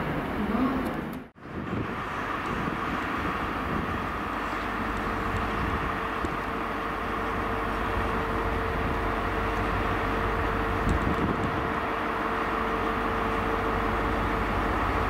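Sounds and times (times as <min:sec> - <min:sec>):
diesel locomotive engine drone: 0:00.0 - 0:15.0
held whining tone: 0:00.8 - 0:15.0.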